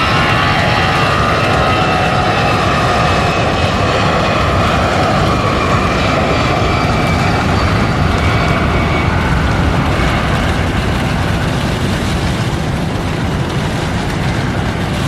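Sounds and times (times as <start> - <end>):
faint engine whine: 0.0 - 15.0
jet engines roaring: 0.0 - 15.0.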